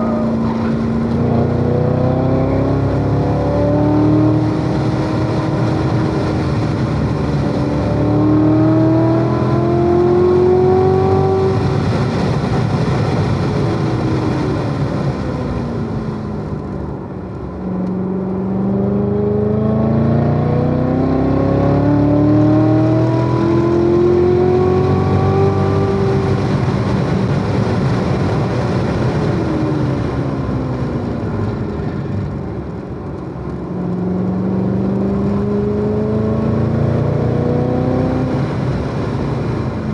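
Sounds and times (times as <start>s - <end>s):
sports car engine at full throttle: 0.0s - 39.9s.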